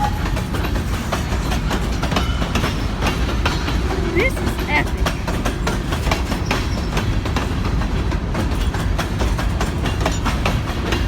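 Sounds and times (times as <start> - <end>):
low train rumble: 0.0 - 11.0
train wheels clicking over rail joints: 0.0 - 11.0.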